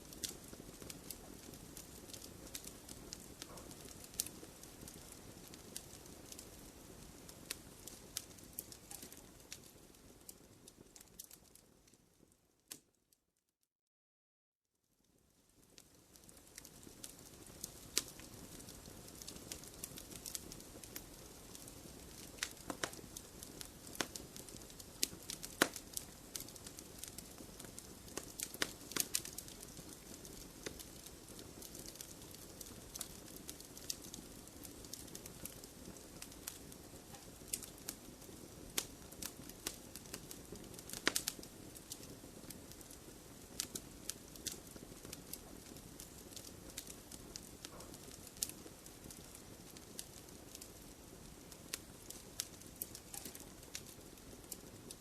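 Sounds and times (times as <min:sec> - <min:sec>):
wood fire crackling: 0:00.0 - 0:12.9, 0:15.1 - 0:55.0.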